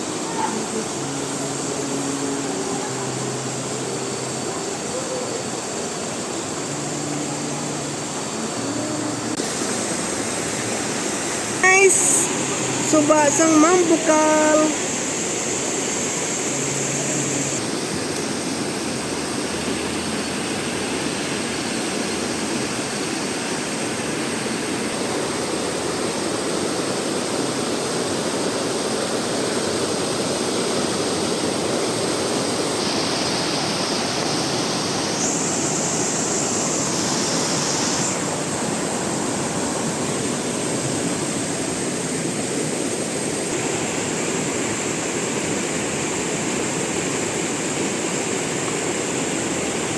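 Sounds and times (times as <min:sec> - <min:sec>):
higher hiss: 0:00.0 - 0:49.9
river water flowing: 0:00.0 - 0:49.9.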